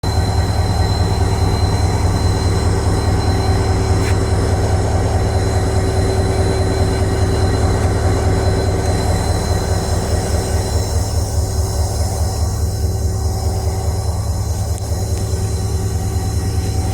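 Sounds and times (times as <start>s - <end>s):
diesel locomotive rumbling: 0.0s - 16.9s
high whine: 0.0s - 16.9s.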